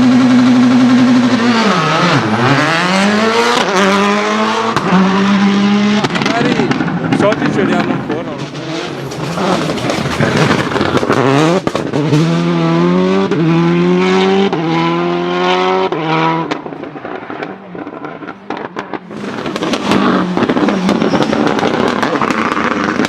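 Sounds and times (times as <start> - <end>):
rally car engine accelerating: 0.0 - 23.0
road noise: 0.0 - 23.0.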